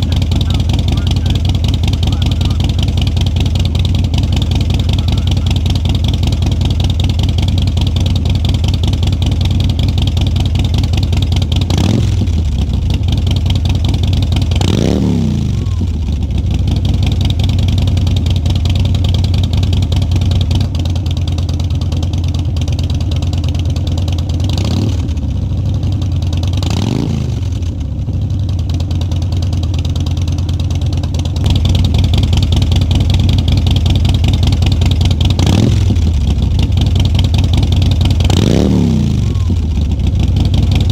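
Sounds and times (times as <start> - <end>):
motorcycle engine idling: 0.0 - 40.9
motorcycle engine revving: 0.0 - 40.9.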